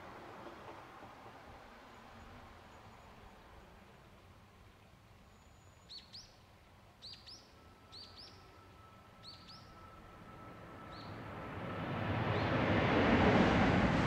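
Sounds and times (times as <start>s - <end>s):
faint steady tone: 0.0s - 12.0s.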